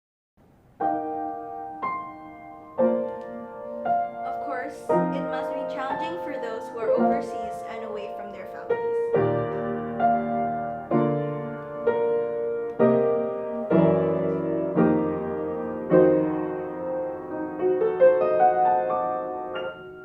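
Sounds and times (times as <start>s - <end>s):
solo piano chords: 0.4s - 20.0s.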